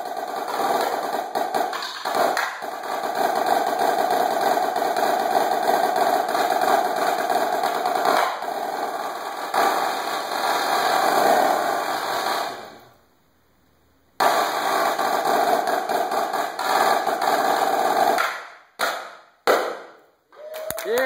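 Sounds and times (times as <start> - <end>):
marching snare drum rolls: 0.0 - 12.6, 14.2 - 18.9.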